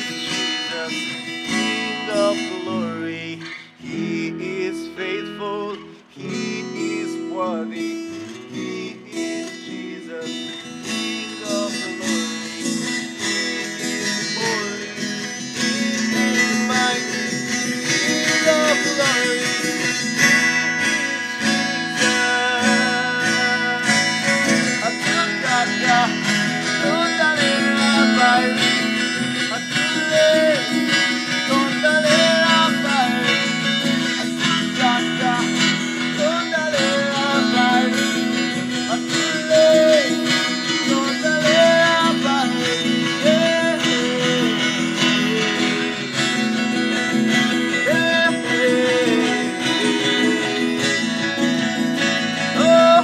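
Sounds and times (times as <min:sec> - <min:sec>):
acoustic guitar strumming: 0:00.0 - 0:53.0
man singing: 0:00.0 - 0:53.0.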